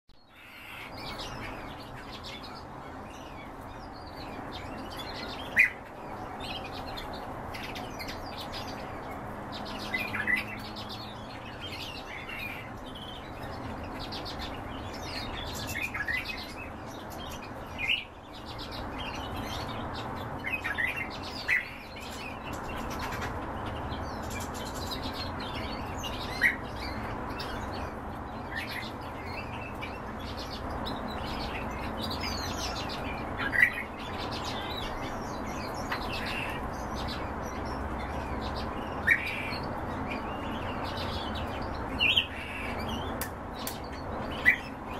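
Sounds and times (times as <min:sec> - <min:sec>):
birds chirping sharply: 0:00.2 - 0:44.9.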